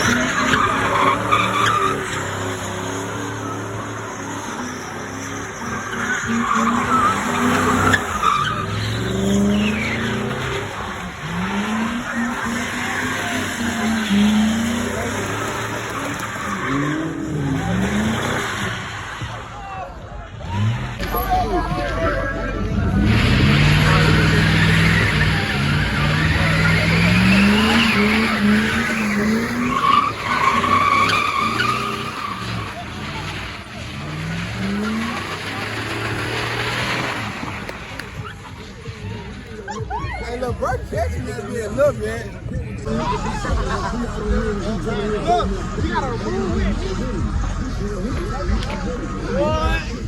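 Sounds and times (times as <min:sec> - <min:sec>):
car engine revving: 0:00.0 - 0:50.0
tires squealing: 0:00.0 - 0:50.0.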